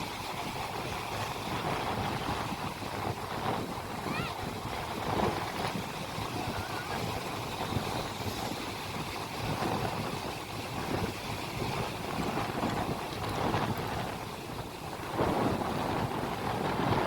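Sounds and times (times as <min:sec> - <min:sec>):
boat rumble: 0:00.0 - 0:17.0
wind buffeting microphone: 0:00.0 - 0:17.0.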